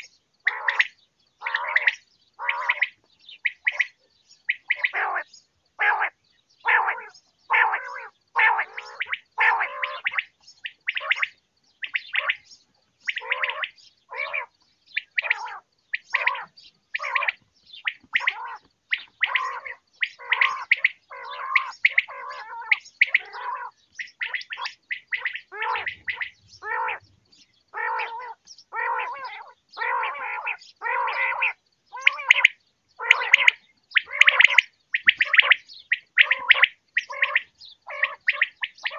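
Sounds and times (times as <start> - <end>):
quail calling: 0.0 - 38.9.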